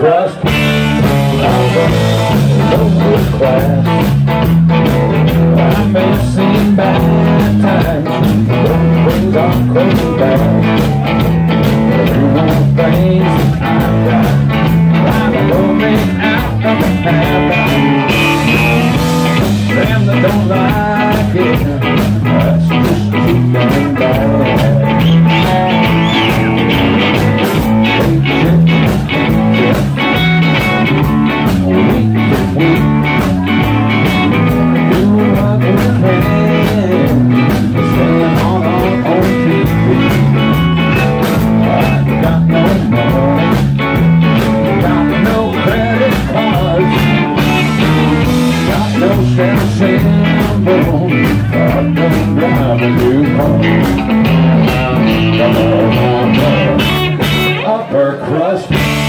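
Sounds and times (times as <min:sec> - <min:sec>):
blues-rock band playing: 0:00.0 - 0:59.0.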